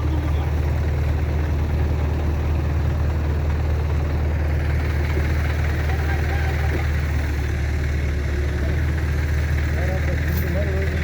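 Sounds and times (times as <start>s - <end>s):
heavy vehicle engine idling: 0.0s - 11.0s.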